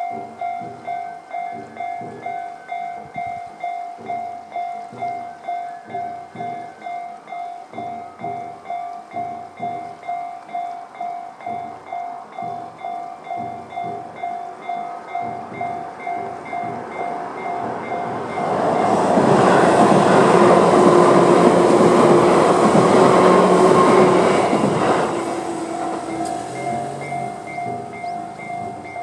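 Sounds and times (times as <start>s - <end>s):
electric train passing: 0.0s - 29.0s
level crossing alarm bell: 0.0s - 29.0s.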